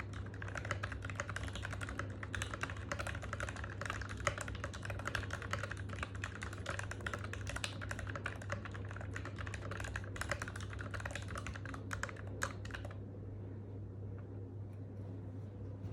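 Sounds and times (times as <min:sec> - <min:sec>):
fast typing on mechanical keyboard: 0:00.0 - 0:13.0.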